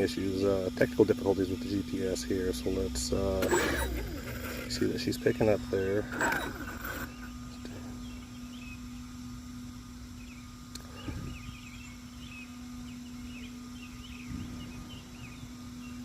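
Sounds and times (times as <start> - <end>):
steady low hum: 0.0 - 16.0
birds chirping: 1.2 - 16.0.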